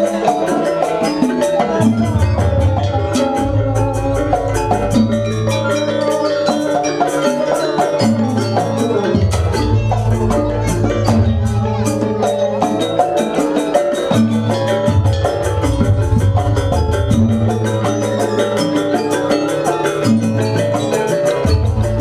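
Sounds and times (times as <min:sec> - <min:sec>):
drum strokes: 0:00.0 - 0:22.0
struck metallophone notes: 0:00.0 - 0:22.0.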